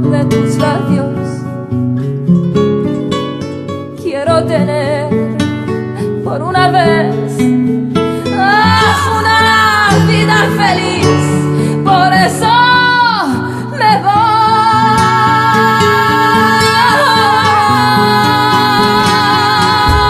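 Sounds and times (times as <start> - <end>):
woman singing flamenco style: 0.0 - 1.8, 3.7 - 20.0
guitar accompaniment: 0.0 - 20.0.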